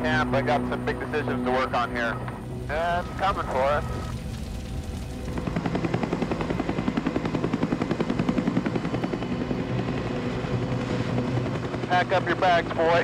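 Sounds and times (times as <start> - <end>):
helicopter engine drone: 0.0 - 13.0
helicopter rotor beating: 0.0 - 13.0.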